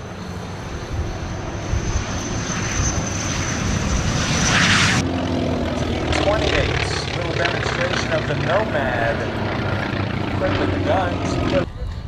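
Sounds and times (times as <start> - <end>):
jet engine whine and rumble: 0.0 - 12.0.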